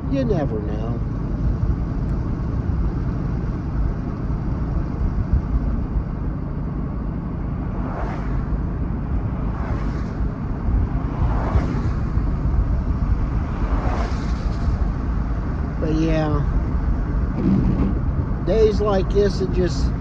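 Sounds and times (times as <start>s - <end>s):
vehicle road and engine rumble: 0.0s - 20.0s.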